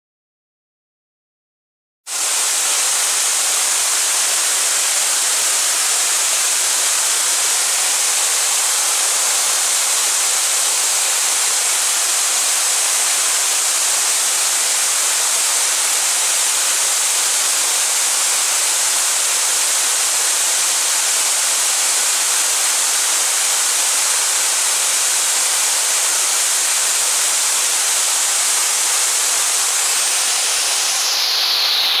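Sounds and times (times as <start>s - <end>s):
waterfall rushing: 2.1s - 32.0s.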